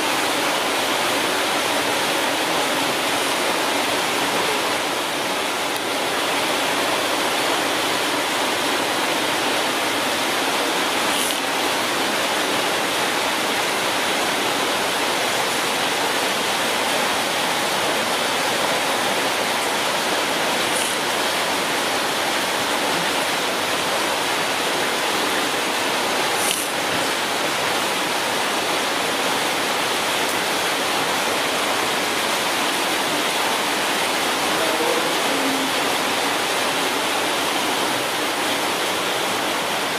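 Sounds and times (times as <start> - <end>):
steady rushing hiss: 0.0 - 39.9.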